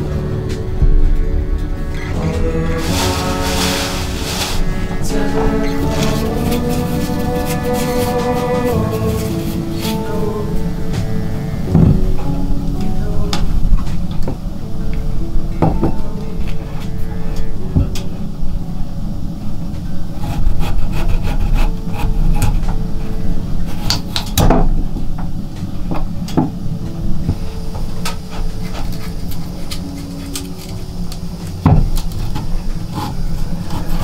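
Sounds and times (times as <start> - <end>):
steady low rumble: 0.0 - 34.0
wood rubbing and scraping: 0.0 - 34.0.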